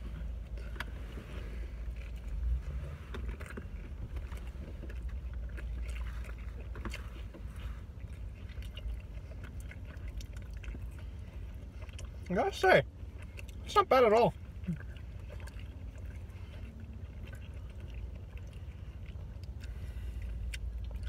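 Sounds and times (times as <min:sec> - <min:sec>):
car cabin rumble: 0:00.0 - 0:21.0
people chewing food: 0:00.0 - 0:21.0.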